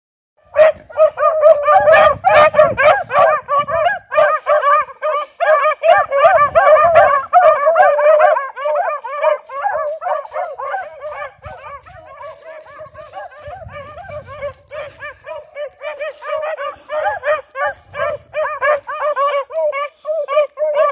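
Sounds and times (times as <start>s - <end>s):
hounds baying and yelping: 0.4s - 20.9s.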